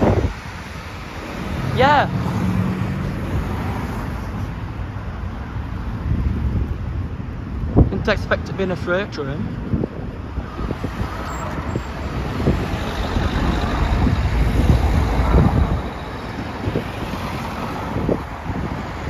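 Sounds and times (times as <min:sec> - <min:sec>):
cars rumbling over level crossing: 0:00.0 - 0:19.0.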